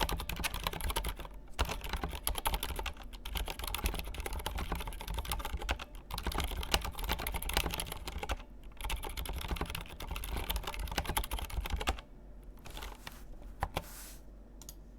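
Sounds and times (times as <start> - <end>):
typing on mechanical keyboard: 0.0 - 13.0.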